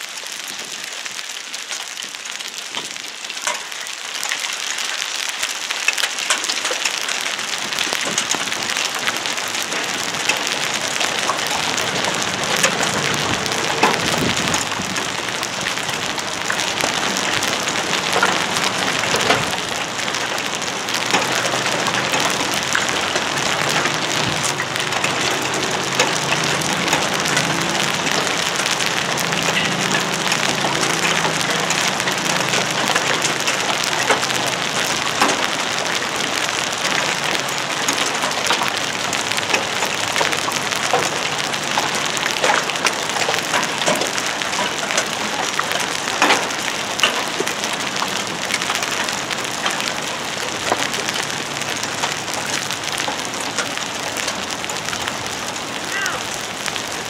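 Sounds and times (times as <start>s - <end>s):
rain falling: 0.0s - 57.0s
raindrops ticking on hard surfaces: 0.0s - 57.0s.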